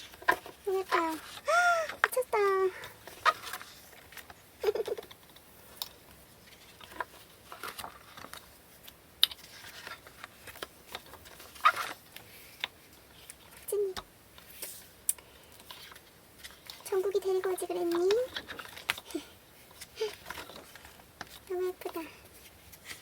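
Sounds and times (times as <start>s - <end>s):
book pages turning: 0.0s - 23.0s
soft paper clicks and rustles: 0.0s - 23.0s.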